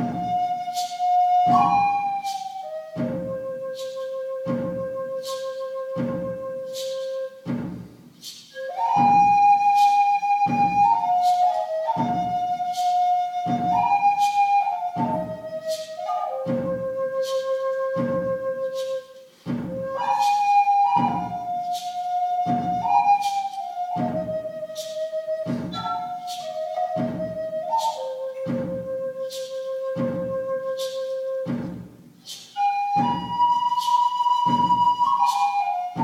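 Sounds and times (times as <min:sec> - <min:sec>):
flute playing slow melody: 0:00.0 - 0:07.6, 0:08.5 - 0:31.8, 0:32.6 - 0:36.0.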